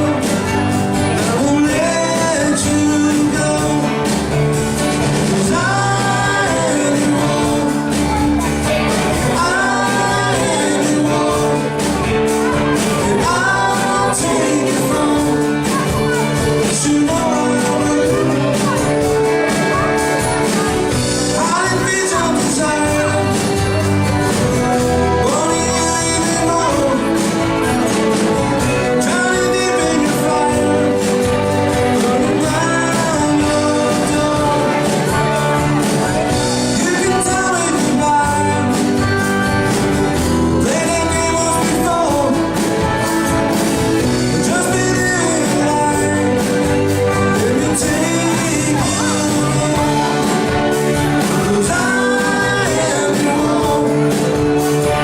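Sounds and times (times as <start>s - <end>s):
lead singer singing: 0.0s - 55.0s
live band playing: 0.0s - 55.0s.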